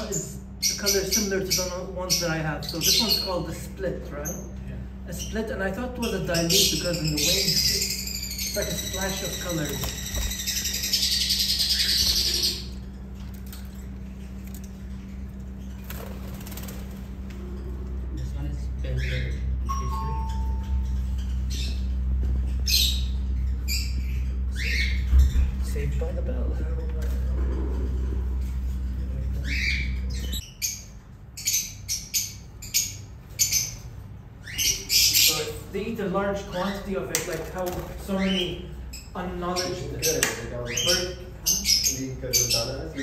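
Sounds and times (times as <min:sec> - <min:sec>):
faint bird sounds: 0:00.0 - 0:43.0
lovebirds chattering: 0:00.0 - 0:43.0
low steady hum: 0:00.0 - 0:43.0.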